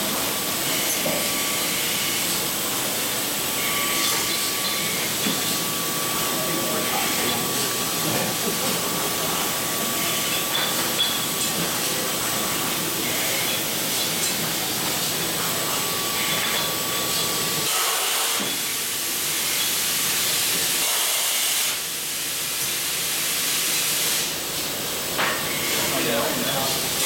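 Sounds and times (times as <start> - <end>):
bottling machine hissing air and spray: 0.0 - 27.0
faint steady machine whine: 0.0 - 27.0.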